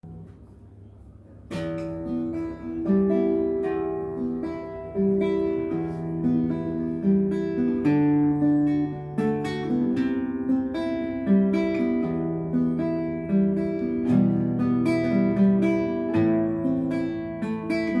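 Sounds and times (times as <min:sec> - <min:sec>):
acoustic guitar melody: 0:00.0 - 0:18.0.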